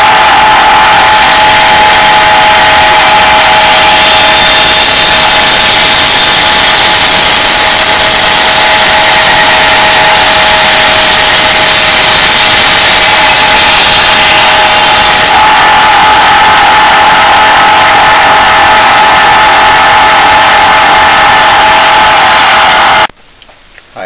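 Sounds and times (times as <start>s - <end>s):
belt grinder grinding steel: 0.0s - 23.1s
motor whine: 0.0s - 23.1s.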